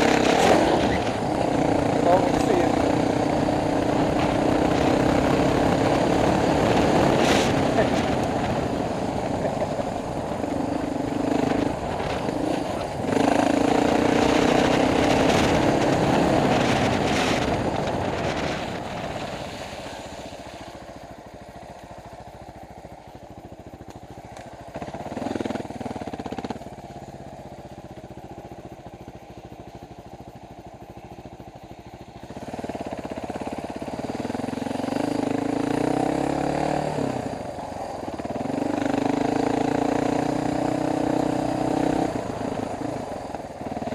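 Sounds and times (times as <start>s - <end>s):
motorcycle engine under throttle: 0.0s - 43.9s.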